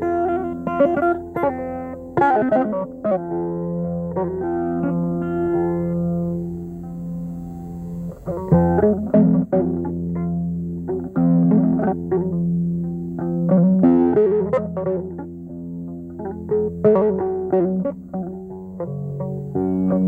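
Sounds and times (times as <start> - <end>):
solo electric guitar melody: 0.0 - 20.0.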